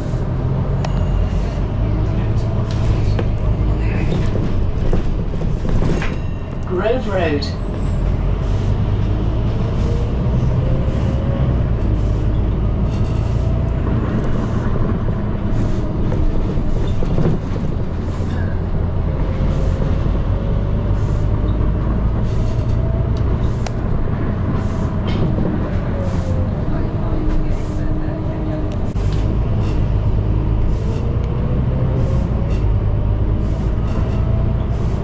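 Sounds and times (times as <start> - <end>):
bus engine drone and whine: 0.0 - 35.0.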